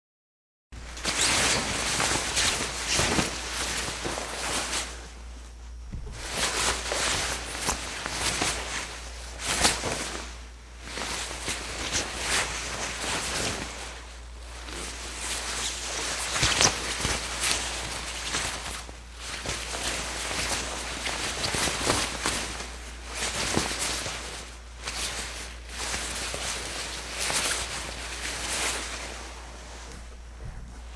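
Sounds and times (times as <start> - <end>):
cloth rustling: 0.8 - 30.9.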